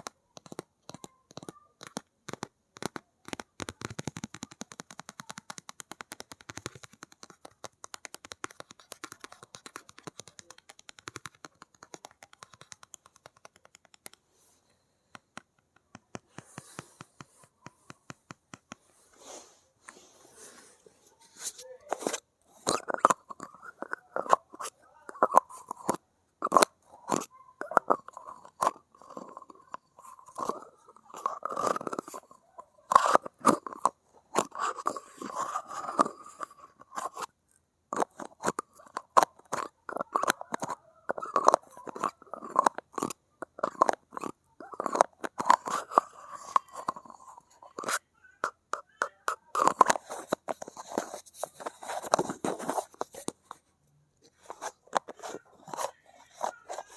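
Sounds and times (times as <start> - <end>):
fingernails tapping and scratching: 0.0 - 19.0, 19.9 - 56.9.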